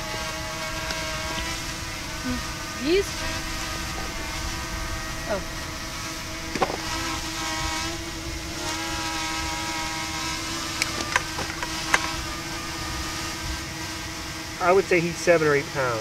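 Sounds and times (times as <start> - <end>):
steady motor drone: 0.0 - 16.0.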